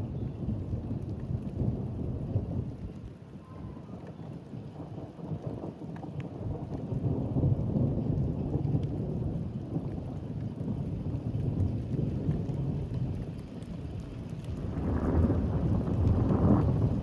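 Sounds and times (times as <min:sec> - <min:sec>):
low rumble of thunder: 0:00.0 - 0:17.0
steady rain: 0:00.0 - 0:17.0
raindrops ticking: 0:00.4 - 0:03.2, 0:03.8 - 0:17.0.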